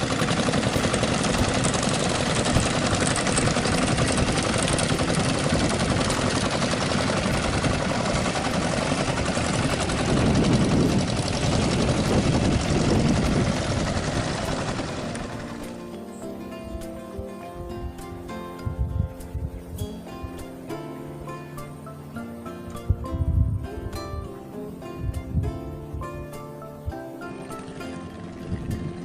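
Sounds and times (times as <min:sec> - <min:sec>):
wind buffeting microphone: 0:00.0 - 0:15.8, 0:16.6 - 0:20.4, 0:22.8 - 0:24.3, 0:24.9 - 0:27.0, 0:28.0 - 0:29.0.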